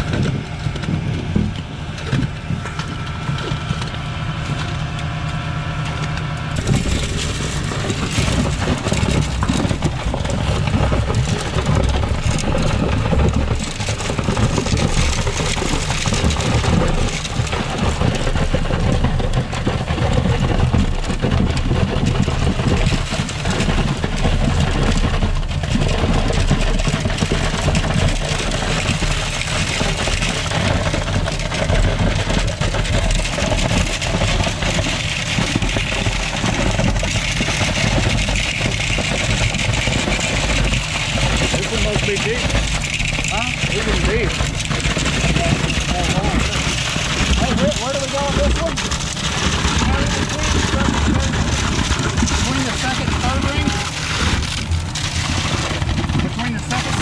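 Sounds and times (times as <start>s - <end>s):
diesel engine and pump running: 0.0s - 57.0s.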